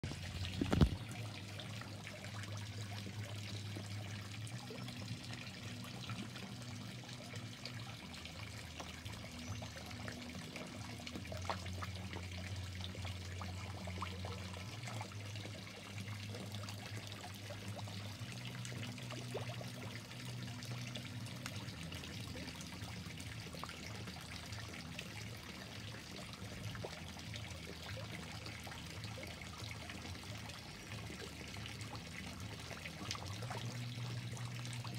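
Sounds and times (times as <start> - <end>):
low steady hum: 0.0 - 34.9
water trickling: 0.0 - 34.9.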